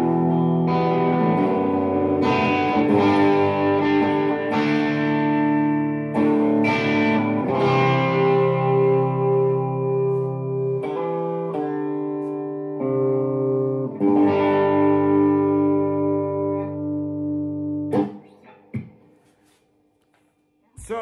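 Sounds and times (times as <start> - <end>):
electric guitar strummed chords: 0.0 - 18.9.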